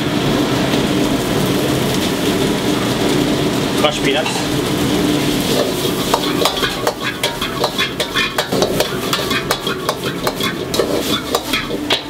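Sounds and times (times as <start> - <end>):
food sizzling in hot oil: 0.0 - 12.0
utensil scraping against a wok: 1.3 - 12.0.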